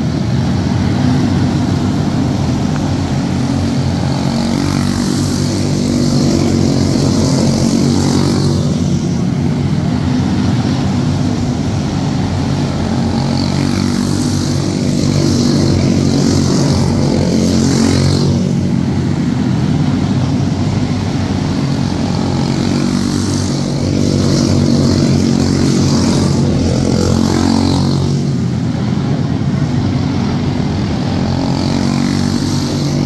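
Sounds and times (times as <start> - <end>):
race car engines buzzing: 0.0 - 33.0.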